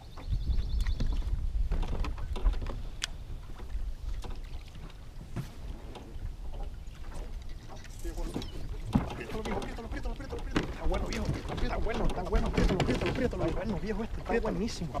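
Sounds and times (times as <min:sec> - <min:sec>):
water lapping against boat hull: 0:00.0 - 0:15.0
wind rumbling on microphone: 0:00.0 - 0:15.0.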